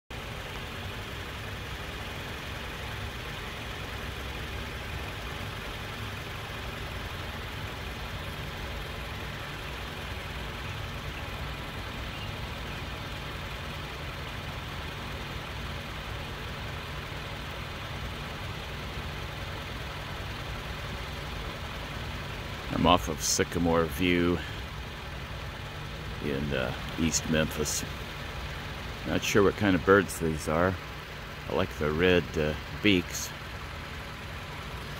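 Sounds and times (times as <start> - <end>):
low engine hum: 0.1 - 34.9.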